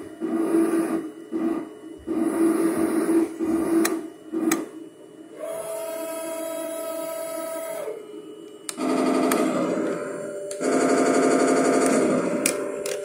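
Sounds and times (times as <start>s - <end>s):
rhythmic mechanical sound: 0.0s - 13.0s
turret motor whine: 0.0s - 13.0s.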